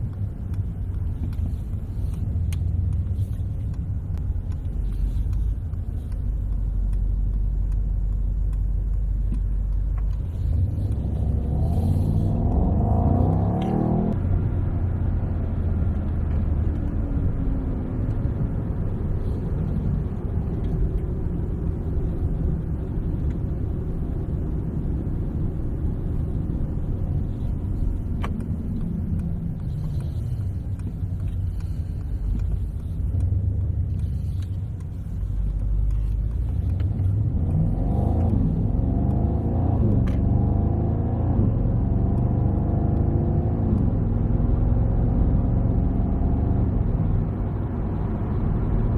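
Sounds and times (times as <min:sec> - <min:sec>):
car engine accelerating: 0:00.0 - 0:48.9
road rumble: 0:00.0 - 0:48.9.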